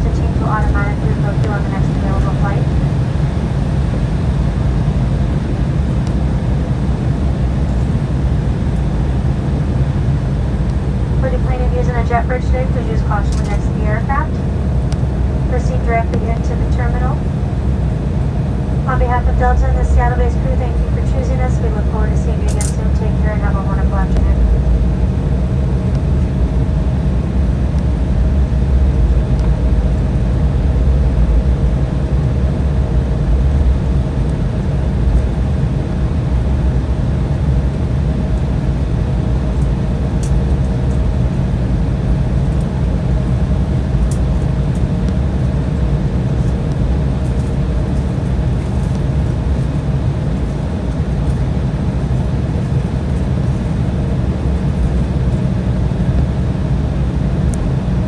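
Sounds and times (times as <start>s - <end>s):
aircraft cabin rumble: 0.0s - 58.0s
faint steady hum: 0.0s - 58.0s.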